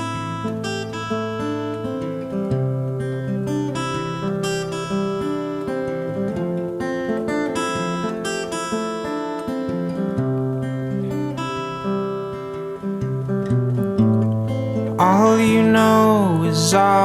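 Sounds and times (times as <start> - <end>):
acoustic guitar picking and strumming: 0.0 - 17.0.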